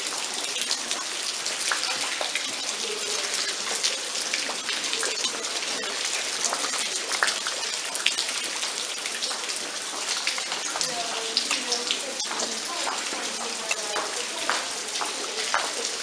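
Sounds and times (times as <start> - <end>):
rain hissing: 0.0 - 16.0
raindrops ticking close by: 0.0 - 16.0.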